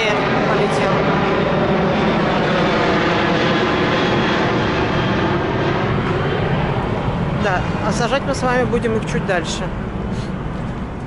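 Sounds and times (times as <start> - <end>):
airliner engines climbing overhead: 0.0 - 11.0.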